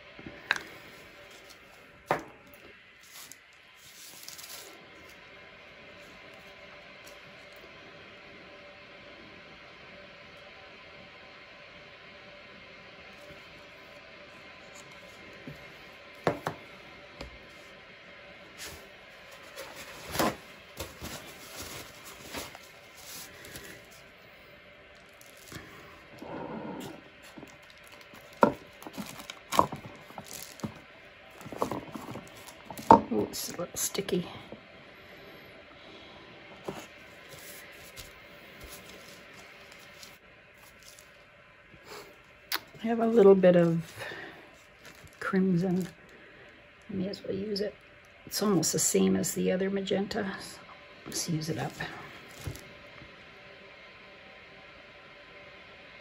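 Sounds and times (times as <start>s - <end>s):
low room noise: 0.0s - 56.0s.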